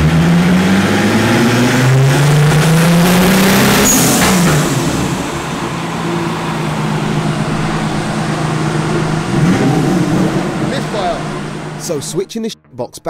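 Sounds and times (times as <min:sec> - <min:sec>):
engine revving on a dyno: 0:00.0 - 0:11.9.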